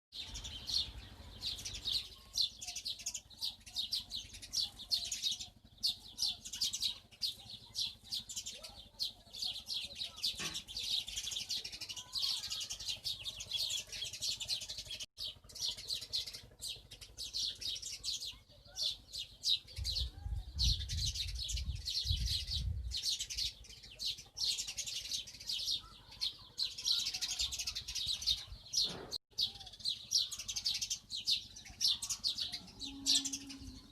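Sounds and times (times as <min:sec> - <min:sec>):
small bird chirping rapidly: 0:00.1 - 0:33.9.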